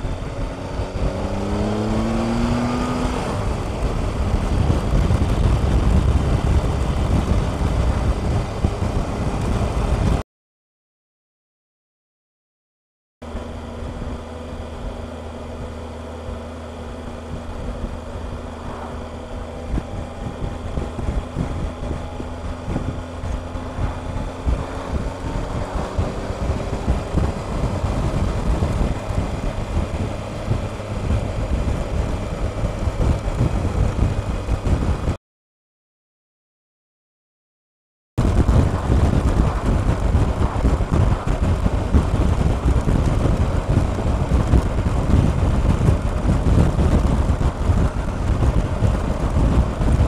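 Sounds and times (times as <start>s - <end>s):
motorcycle engine accelerating: 0.0s - 10.2s, 13.2s - 35.2s, 38.2s - 50.0s
wind buffeting microphone: 0.0s - 10.2s, 13.4s - 35.2s, 38.2s - 50.0s.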